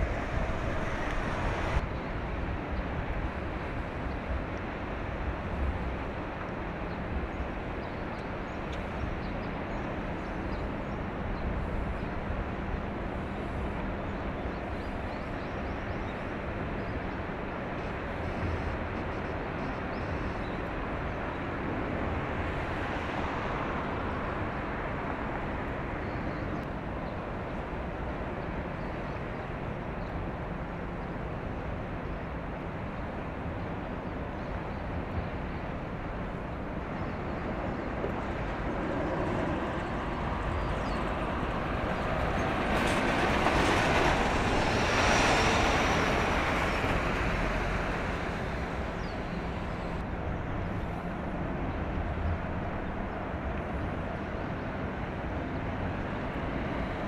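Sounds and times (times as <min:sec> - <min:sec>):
ship engine and water rumble: 0:00.0 - 0:57.0.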